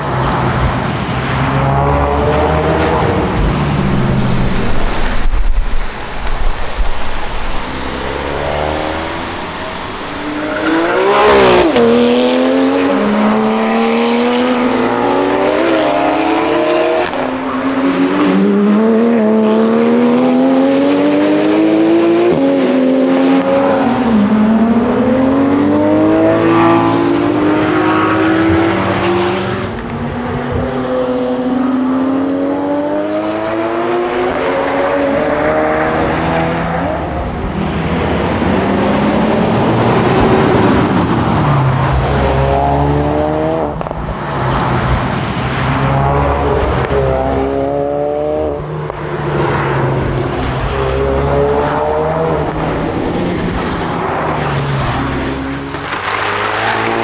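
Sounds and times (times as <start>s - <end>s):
car engine accelerating through gears: 1.5s - 44.0s, 45.8s - 57.0s.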